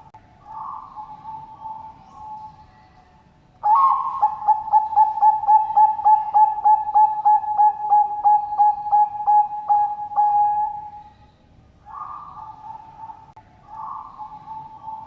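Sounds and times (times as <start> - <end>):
dove cooing: 0.0 - 2.6, 3.6 - 11.2, 11.9 - 15.0.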